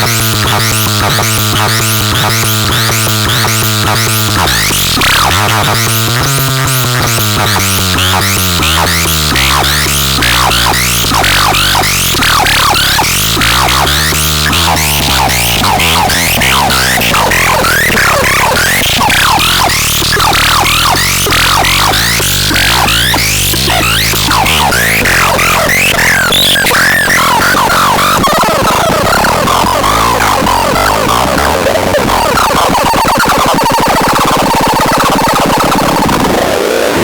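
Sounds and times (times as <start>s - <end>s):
low synth drone: 0.0s - 32.8s.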